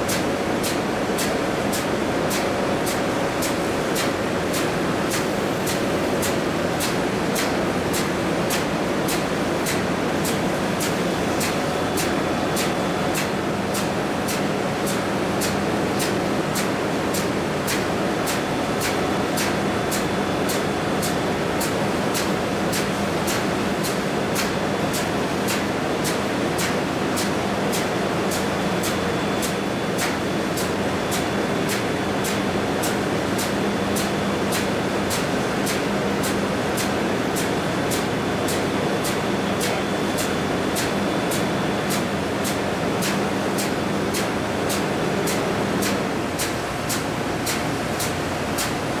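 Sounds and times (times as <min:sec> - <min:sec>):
engine room machinery noise: 0:00.0 - 0:49.0.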